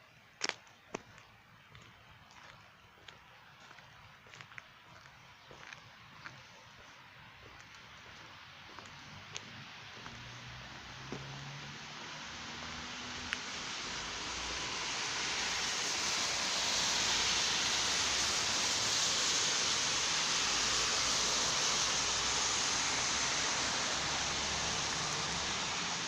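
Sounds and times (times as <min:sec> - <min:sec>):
steady rushing hiss: 0:04.4 - 0:26.0.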